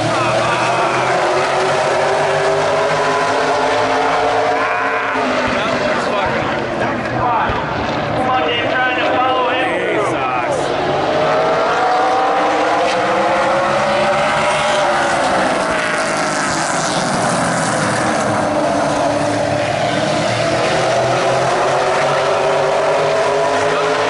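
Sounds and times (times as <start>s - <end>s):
race car engines at full throttle: 0.0s - 24.0s.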